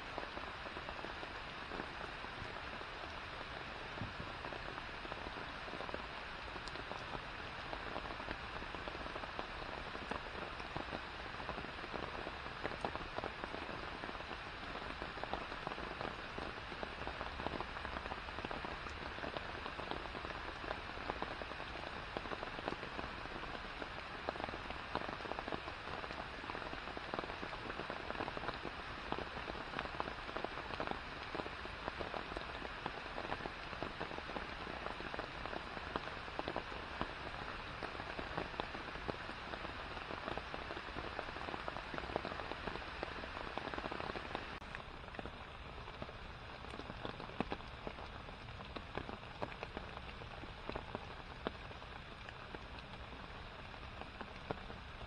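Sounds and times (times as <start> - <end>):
rain hissing on pond: 0.0 - 55.0.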